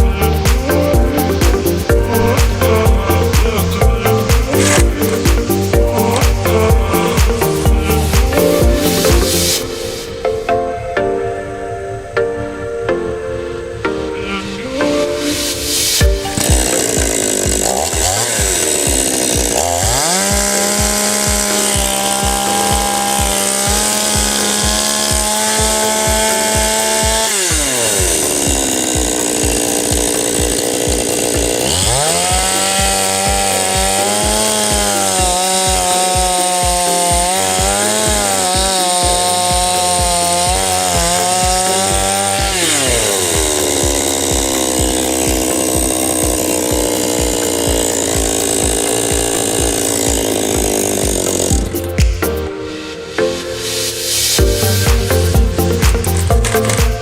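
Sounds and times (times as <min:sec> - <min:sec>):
chainsaw idling and revving: 0:00.0 - 0:10.2, 0:15.4 - 0:52.5, 0:54.0 - 0:57.0.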